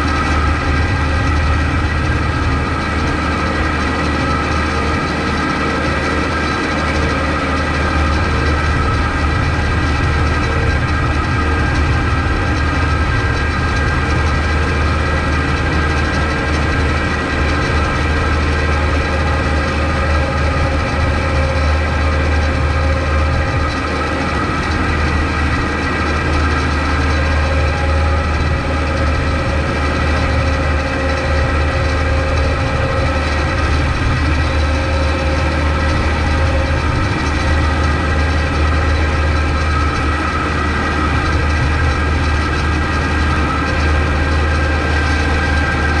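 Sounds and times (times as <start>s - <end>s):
tractor diesel engine rumbling: 0.0s - 46.0s.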